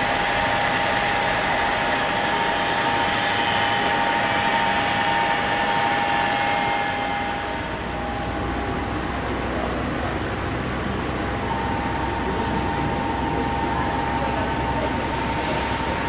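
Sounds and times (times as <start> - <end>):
continuous rushing hiss: 0.0 - 16.0
jet turbine whine: 0.0 - 16.0.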